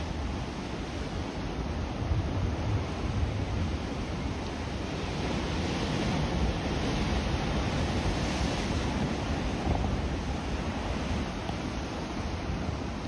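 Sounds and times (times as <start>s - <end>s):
sea surf washing over rocks: 0.0s - 13.0s
wind rumbling on microphone: 0.0s - 13.0s.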